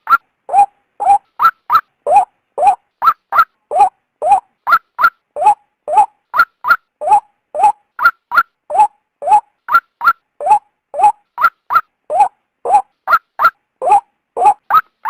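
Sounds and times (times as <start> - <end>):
bird calling harsh notes: 0.0 - 15.0.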